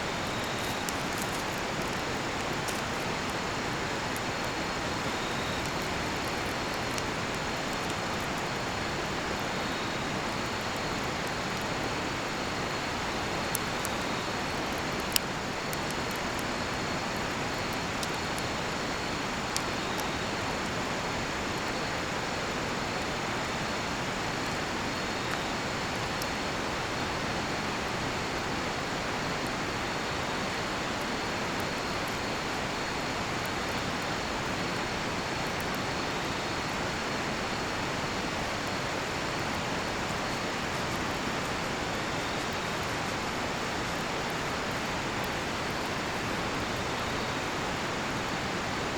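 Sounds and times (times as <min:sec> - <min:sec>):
campfire crackles: 0:00.0 - 0:48.9
faint insect song: 0:00.0 - 0:48.9.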